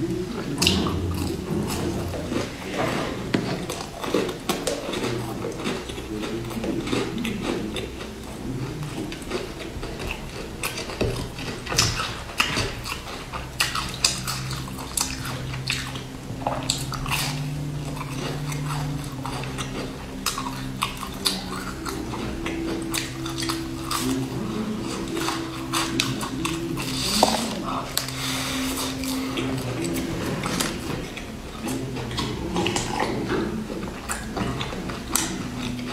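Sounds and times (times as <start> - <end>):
biscuit crunching and chewing: 0.0 - 35.9
steady low hum: 0.0 - 35.9.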